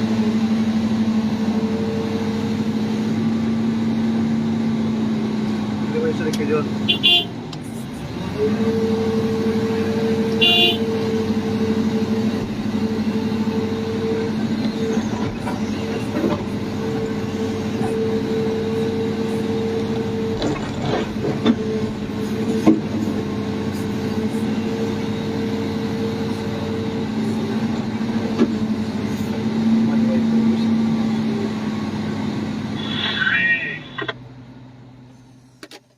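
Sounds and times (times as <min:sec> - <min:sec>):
diesel machinery droning: 0:00.0 - 0:35.9.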